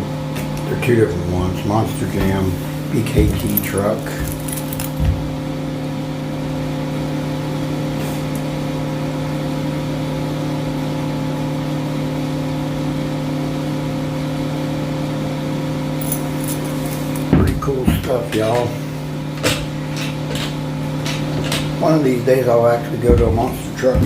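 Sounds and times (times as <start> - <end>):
electric motor hum: 0.0 - 11.3, 13.9 - 24.0.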